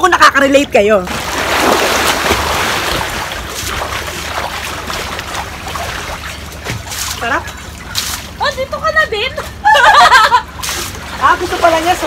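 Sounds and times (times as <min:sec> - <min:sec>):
pool water splashing: 0:00.8 - 0:12.0.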